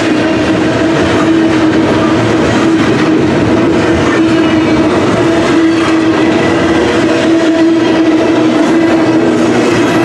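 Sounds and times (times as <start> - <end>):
freight train wheels rumbling: 0.0 - 10.0.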